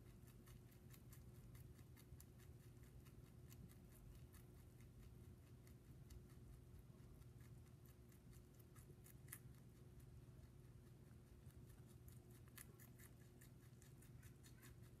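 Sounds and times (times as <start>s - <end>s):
rabbit chewing crisp crunches: 0.0s - 15.0s.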